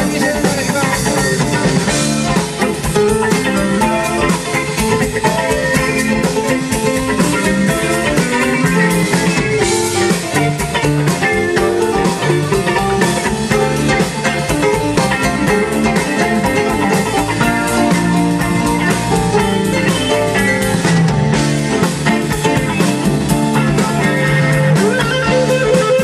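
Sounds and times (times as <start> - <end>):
bass: 0.0 - 26.0
drums: 0.0 - 26.0
electric guitar: 0.0 - 26.0
keyboard: 0.0 - 26.0.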